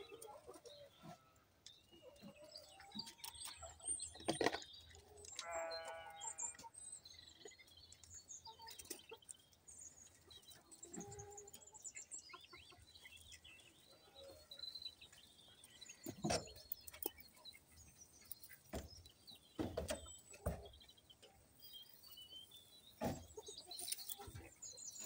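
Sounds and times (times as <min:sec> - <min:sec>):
quail scuffling in sand: 0:00.0 - 0:25.0
bird chirps and calls: 0:01.8 - 0:25.0.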